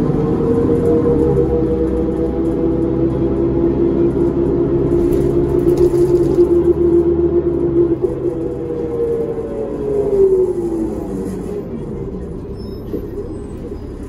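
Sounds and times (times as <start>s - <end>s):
bus engine hum and whine: 0.0s - 14.0s
low driveline rumble: 0.0s - 14.0s.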